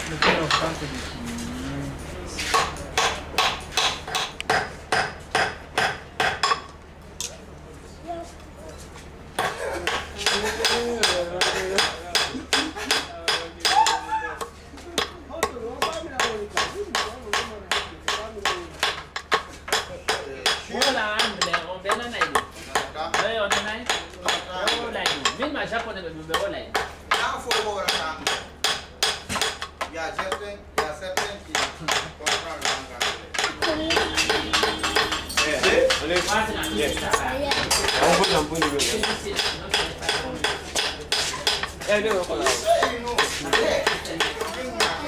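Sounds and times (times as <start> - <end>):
hammer striking metal: 2.5 - 6.7, 9.4 - 25.4, 26.3 - 45.0.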